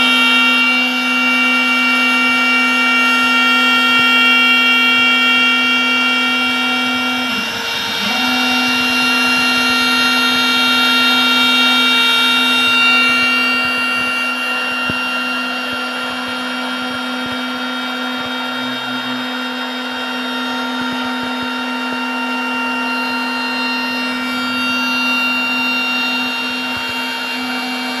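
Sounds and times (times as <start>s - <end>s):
router bit cutting wood: 0.0s - 28.0s
router spindle humming: 0.0s - 28.0s.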